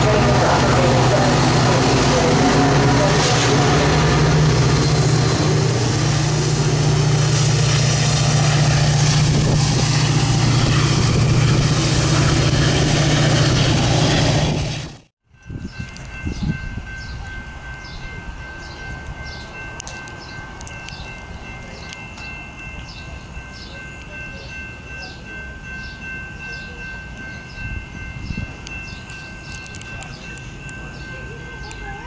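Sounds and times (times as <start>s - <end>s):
crossing bell ringing: 0.0s - 14.1s, 15.3s - 32.0s.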